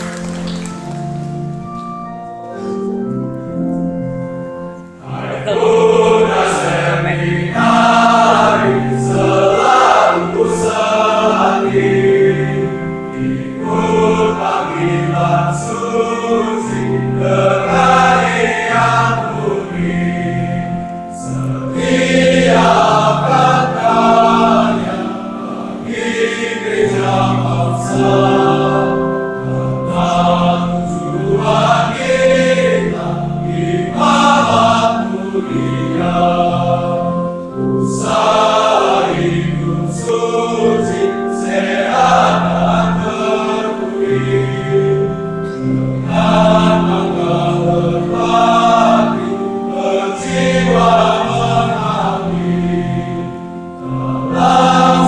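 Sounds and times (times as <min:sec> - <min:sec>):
choir singing in parts: 0:05.0 - 0:55.0.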